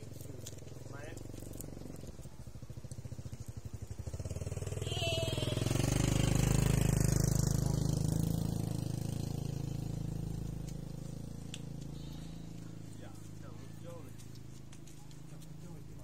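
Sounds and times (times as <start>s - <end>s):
small engine passing by: 0.0s - 16.0s.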